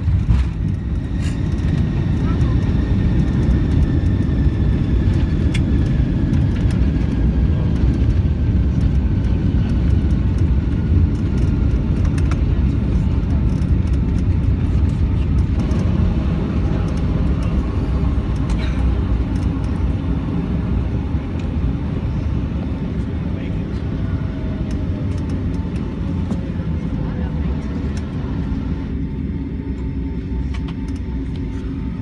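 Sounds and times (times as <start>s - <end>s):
low rumble of engines and wheels: 0.0s - 32.0s.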